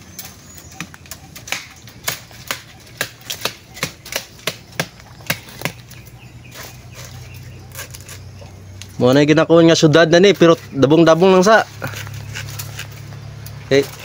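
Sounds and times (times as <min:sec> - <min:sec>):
dry bamboo snapping: 0:00.0 - 0:09.3, 0:10.4 - 0:14.0.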